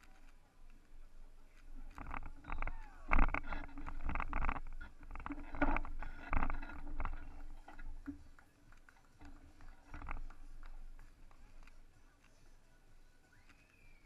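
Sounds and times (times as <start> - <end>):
rumbling and rustling on microphone: 0.0 - 12.0.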